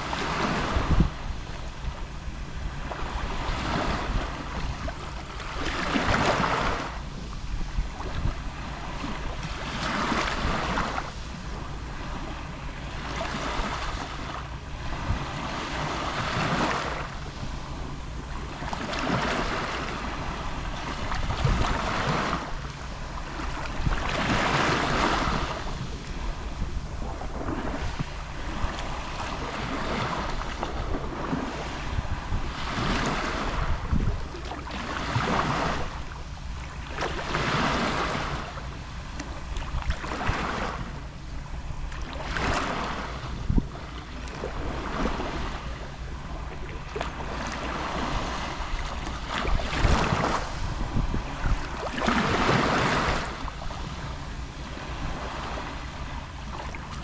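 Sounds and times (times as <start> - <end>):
small waves lapping on shore: 0.0 - 57.0
steady low rumble: 0.0 - 57.0.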